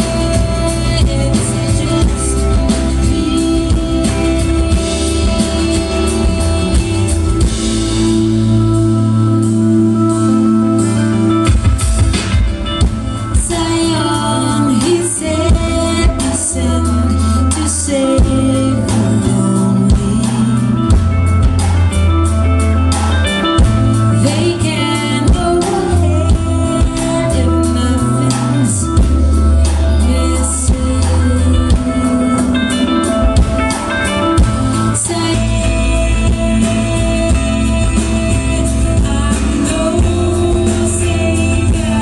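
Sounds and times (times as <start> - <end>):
woman singing: 0.0 - 8.1, 13.2 - 21.4, 23.9 - 42.0
deep bass line: 0.0 - 42.0
electric guitar: 0.0 - 42.0.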